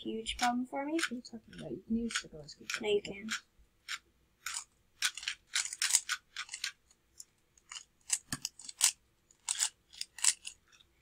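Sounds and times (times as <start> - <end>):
plastic puzzle cube clacking: 0.2 - 11.0.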